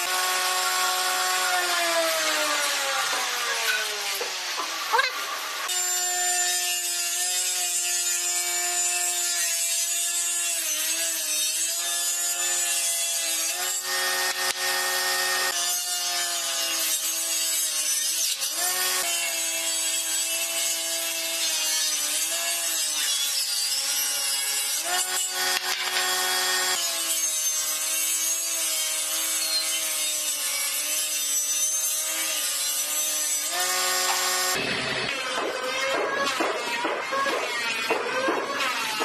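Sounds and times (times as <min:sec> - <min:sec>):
power tool cutting wood: 0:00.0 - 0:39.0.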